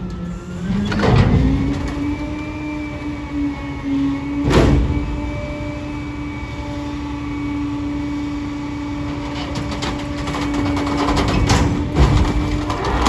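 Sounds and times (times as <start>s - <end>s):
hydraulic hum: 0.0s - 13.0s.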